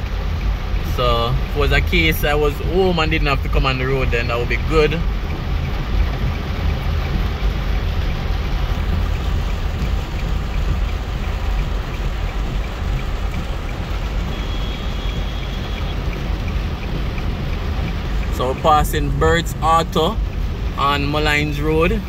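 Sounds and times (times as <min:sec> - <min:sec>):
car driving through floodwater: 0:00.0 - 0:22.0
heavy rain on a car: 0:00.0 - 0:22.0.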